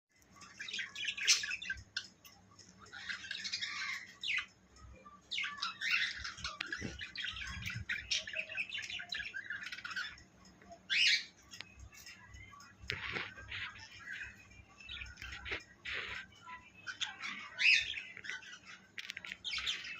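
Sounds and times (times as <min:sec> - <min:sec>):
birds chirping and squawking: 0:00.1 - 0:19.9.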